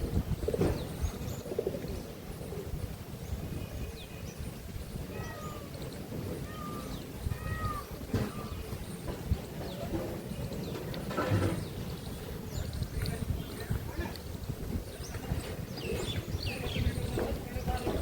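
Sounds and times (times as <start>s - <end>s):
steady low rumbling noise: 0.0s - 18.0s
small birds chirping: 0.1s - 18.0s.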